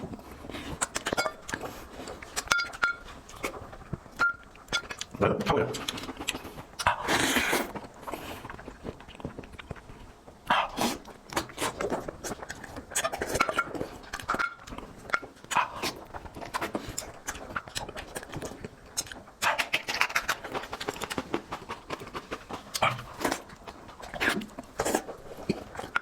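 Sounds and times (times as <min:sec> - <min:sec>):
person chewing: 0:00.0 - 0:26.0.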